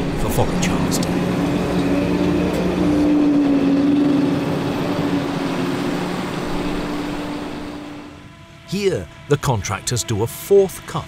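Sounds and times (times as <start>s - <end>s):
wheel loader diesel engine: 0.0s - 11.0s.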